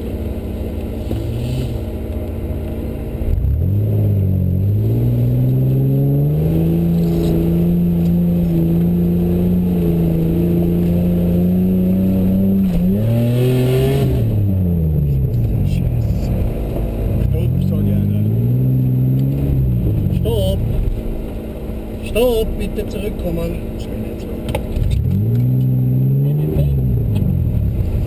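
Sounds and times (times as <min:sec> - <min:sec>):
car engine revving hard: 0:01.0 - 0:02.1, 0:03.2 - 0:28.0.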